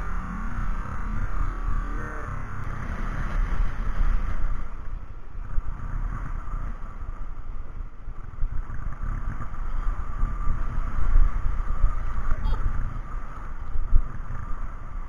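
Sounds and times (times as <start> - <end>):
vehicle road noise: 0.0 - 15.0
wind buffeting: 0.0 - 15.0.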